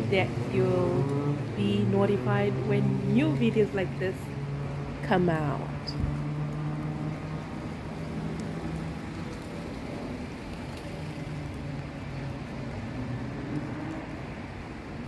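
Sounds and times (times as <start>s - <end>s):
tires hissing on wet road: 0.0s - 15.0s
vehicle engines humming: 0.0s - 15.0s.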